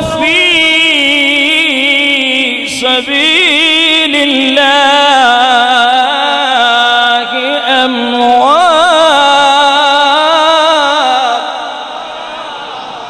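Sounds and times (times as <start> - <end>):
man chanting melodically: 0.0 - 12.4.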